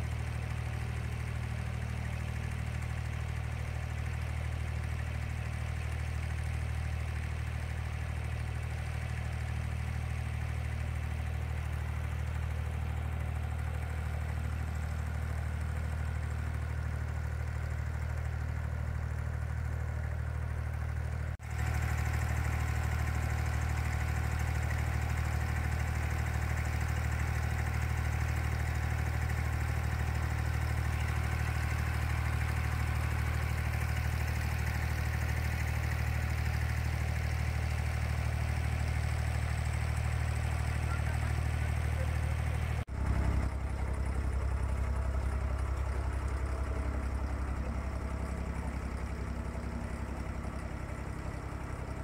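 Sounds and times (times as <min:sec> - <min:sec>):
boat engine humming: 0:08.2 - 0:52.0.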